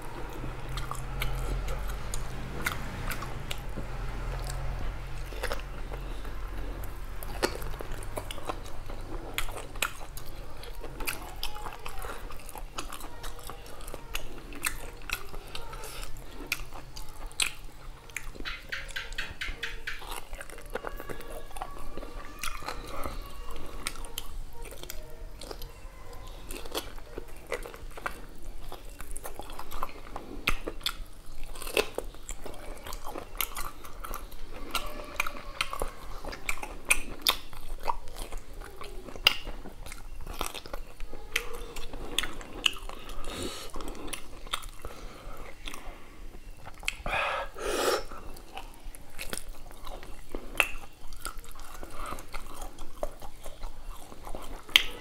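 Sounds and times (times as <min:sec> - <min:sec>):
chewing and biting: 0:00.0 - 0:55.0.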